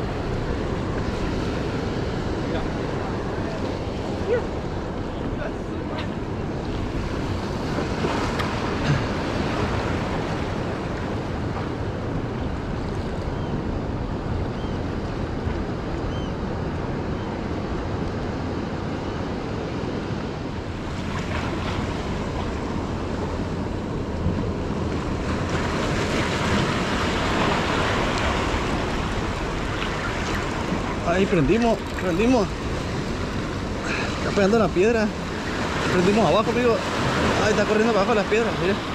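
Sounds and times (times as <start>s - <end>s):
waves breaking over rocks: 0.0s - 14.3s, 16.6s - 38.9s.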